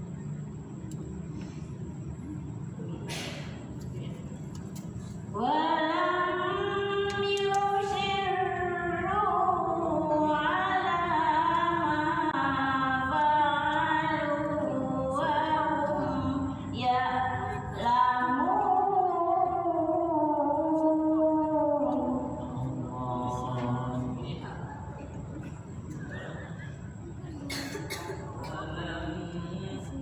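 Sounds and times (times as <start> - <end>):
person chanting recitation: 5.3 - 27.4, 28.0 - 30.0.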